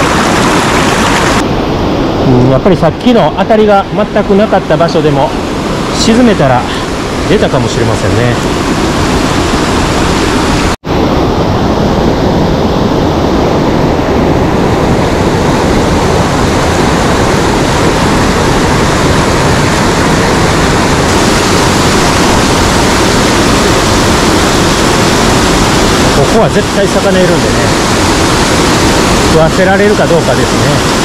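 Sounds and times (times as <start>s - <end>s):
mountain stream rushing: 0.0s - 2.2s, 3.6s - 31.0s.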